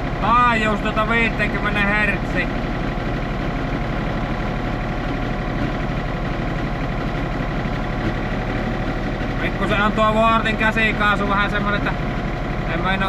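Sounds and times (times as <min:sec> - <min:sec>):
tractor engine running steadily: 0:00.0 - 0:13.0.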